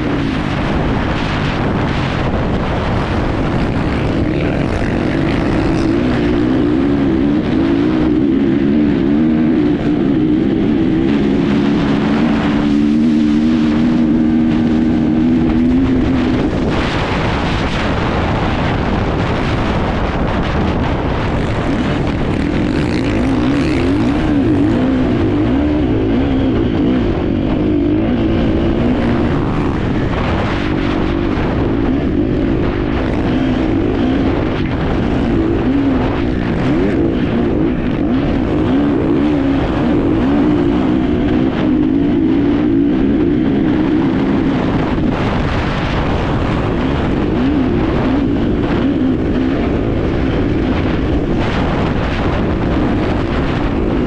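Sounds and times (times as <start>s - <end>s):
motorcycle engine revving: 0.0s - 54.0s
wind and riding noise: 0.0s - 54.0s.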